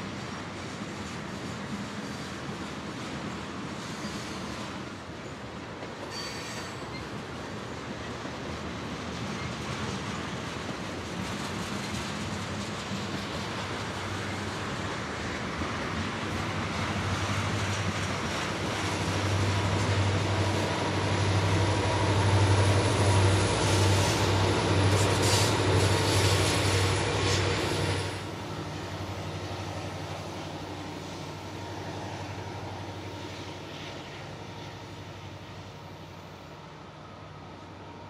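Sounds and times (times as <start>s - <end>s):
diesel train engine drone: 0.0s - 38.0s
train wheel and rail noise: 0.0s - 38.0s.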